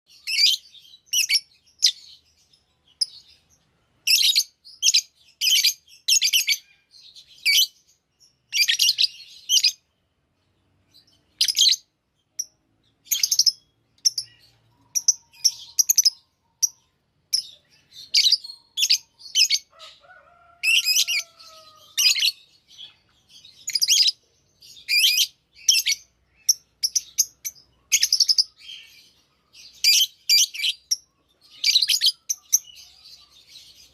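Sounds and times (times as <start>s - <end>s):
birds chirping: 0.1s - 33.9s.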